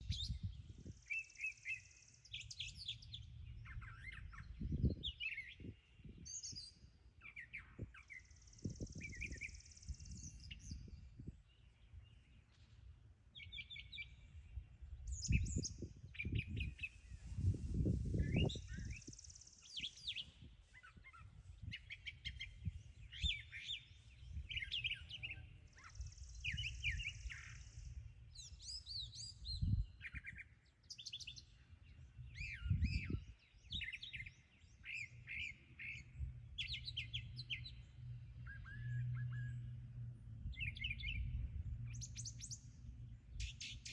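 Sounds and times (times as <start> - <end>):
bird singing varied phrases: 0.0 - 12.4, 18.1 - 39.7, 40.5 - 42.7.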